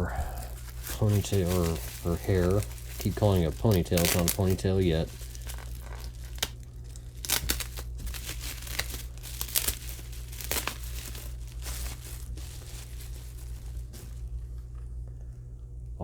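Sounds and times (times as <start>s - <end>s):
packing wrap crinkling: 0.0s - 15.4s
steady low hum: 0.0s - 16.0s.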